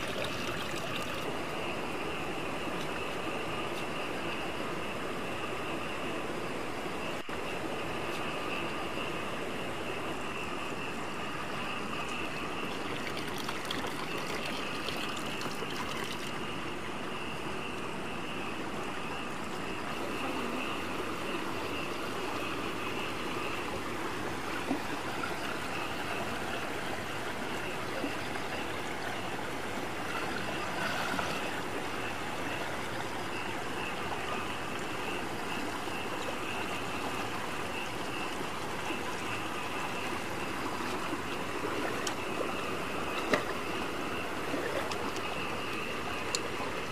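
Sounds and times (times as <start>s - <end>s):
stream trickling over rocks: 0.0s - 4.3s, 10.1s - 46.9s.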